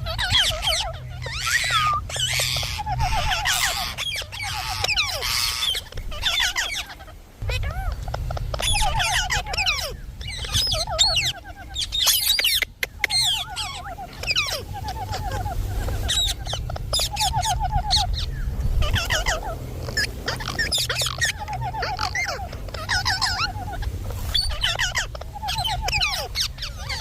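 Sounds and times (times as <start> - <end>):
parrot calling: 0.0 - 27.0
steady low hum: 0.0 - 27.0.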